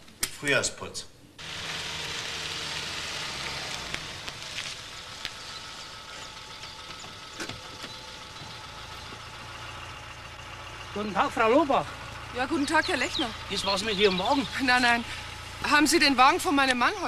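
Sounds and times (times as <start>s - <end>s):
car engine running slowly: 1.4s - 17.0s.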